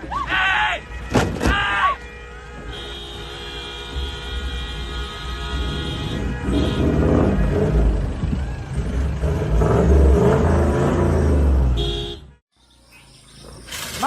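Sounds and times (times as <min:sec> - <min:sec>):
vehicle engine rumbling: 0:00.8 - 0:14.0.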